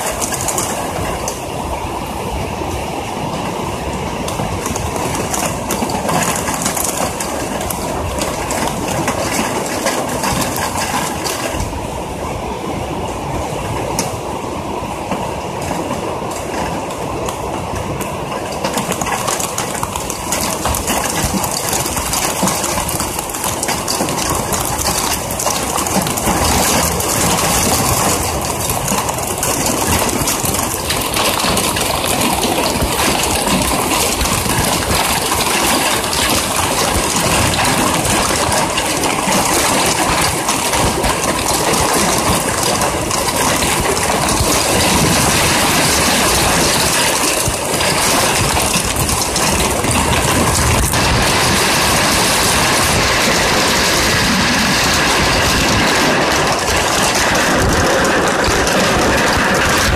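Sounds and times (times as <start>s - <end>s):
heavy rain drumming: 0.0s - 59.9s.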